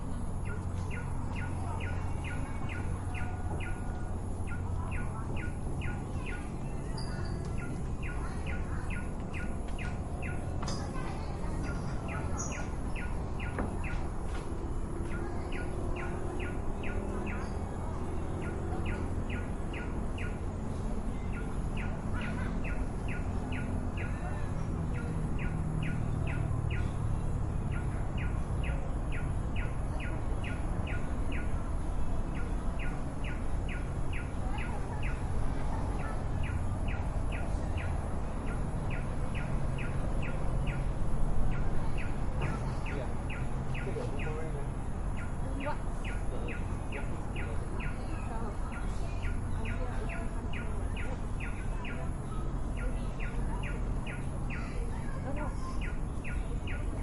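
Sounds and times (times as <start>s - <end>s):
faint distant talking: 0.0s - 57.0s
bird chirping: 0.4s - 14.4s, 15.0s - 57.0s.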